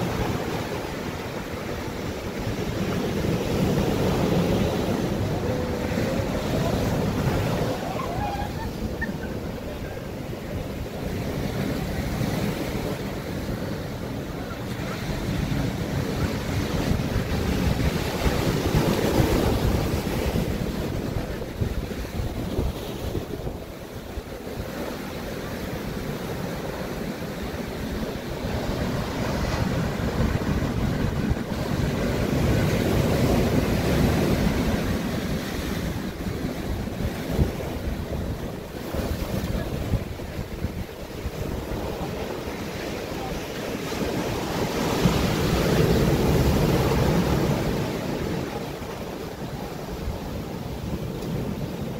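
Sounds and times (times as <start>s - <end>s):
wind buffeting microphone: 0.0s - 24.9s, 27.7s - 51.9s
ocean surf breaking over rocks: 0.0s - 51.9s.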